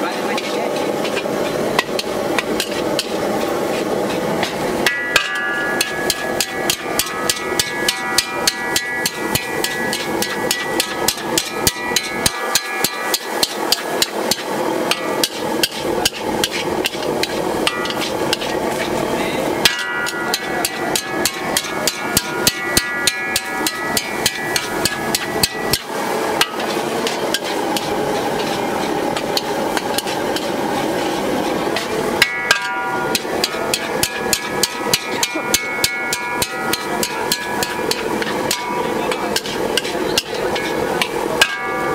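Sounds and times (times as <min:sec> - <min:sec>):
metal spatula clanging on wok: 0:00.3 - 0:41.9.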